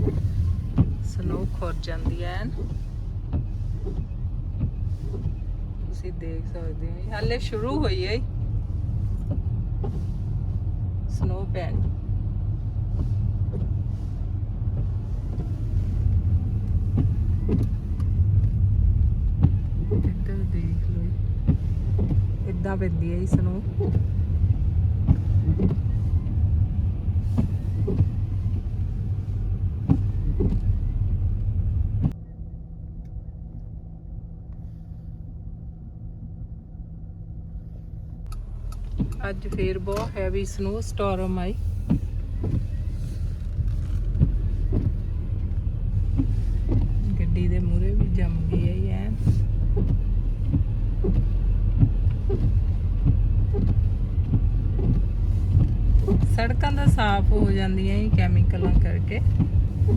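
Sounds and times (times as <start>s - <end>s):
car engine rumbling: 0.0s - 59.9s
low hum: 0.0s - 59.9s.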